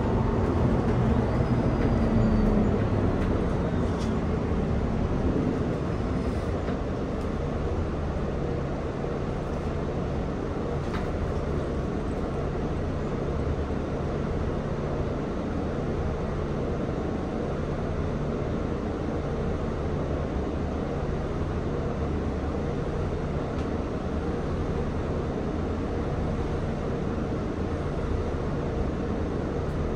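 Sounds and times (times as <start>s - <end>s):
diesel engine hum: 0.0s - 29.9s
road noise: 0.0s - 29.9s.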